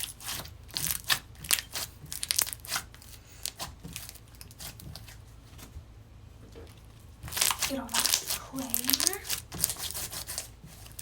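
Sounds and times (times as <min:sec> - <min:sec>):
slime popping and crackling: 0:00.0 - 0:05.2, 0:07.2 - 0:11.0.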